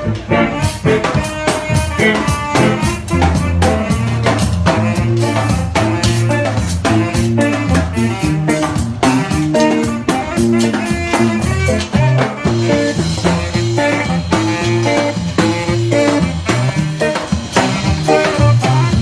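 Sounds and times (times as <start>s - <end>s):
upbeat instrumental music: 0.0s - 19.0s.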